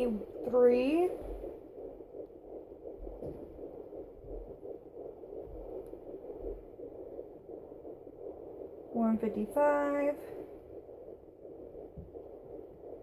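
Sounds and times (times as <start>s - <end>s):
fetal heartbeat on doppler speaker: 0.0s - 13.0s.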